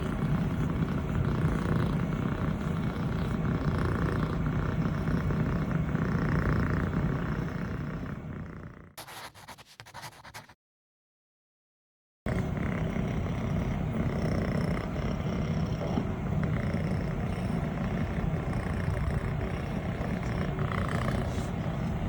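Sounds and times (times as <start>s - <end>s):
kitten purring: 0.0s - 10.6s, 12.3s - 22.0s.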